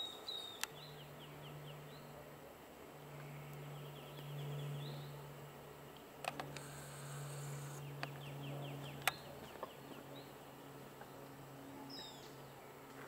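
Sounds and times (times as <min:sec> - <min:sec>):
low insect buzz: 0:00.0 - 0:13.0.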